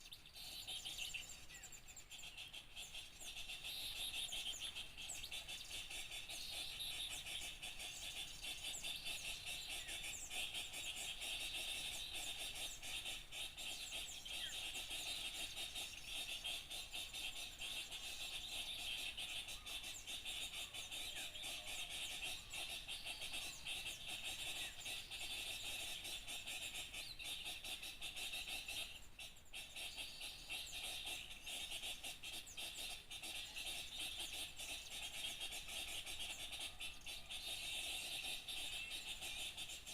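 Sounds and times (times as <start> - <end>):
small birds chirping and chattering: 0.0 - 39.9
sweeping bird calls: 0.0 - 39.9.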